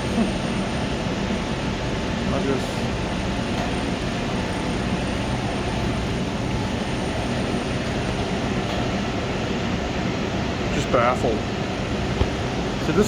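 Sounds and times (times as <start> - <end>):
boiler room equipment rumble: 0.0 - 13.0.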